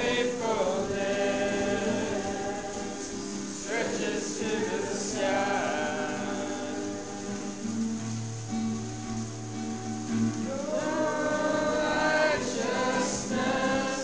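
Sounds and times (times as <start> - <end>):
person singing worship song: 0.0 - 7.8, 10.4 - 14.0.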